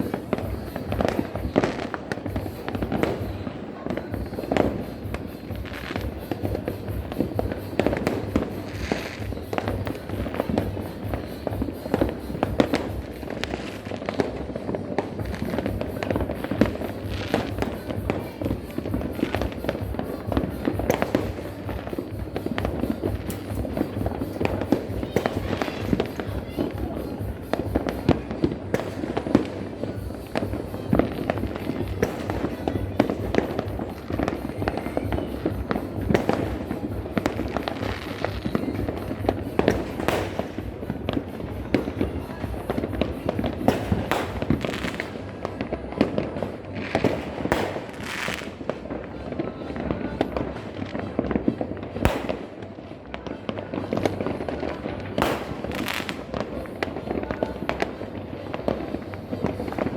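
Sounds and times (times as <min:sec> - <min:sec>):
fireworks and firecrackers bangs: 0:00.0 - 0:59.9.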